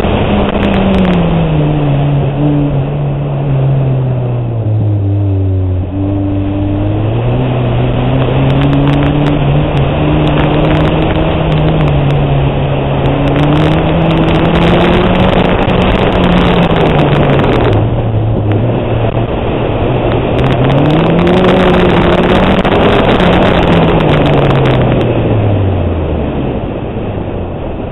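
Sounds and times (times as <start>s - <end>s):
car engine revving: 0.0s - 27.9s
road and wind noise: 0.0s - 27.9s.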